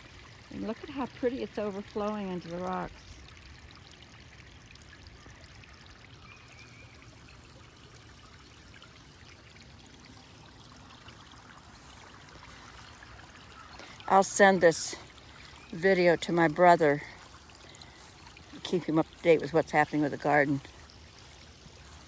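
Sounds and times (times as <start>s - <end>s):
water trickling over rocks: 0.0s - 22.0s.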